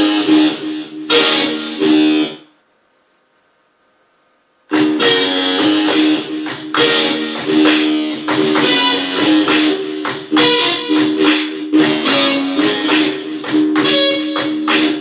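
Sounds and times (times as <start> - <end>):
guitar strumming blues chords: 0.0 - 2.5, 4.7 - 15.0.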